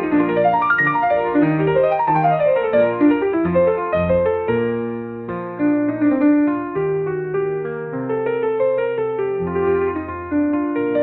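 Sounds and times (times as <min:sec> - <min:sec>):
baroque piano music: 0:00.0 - 0:11.0.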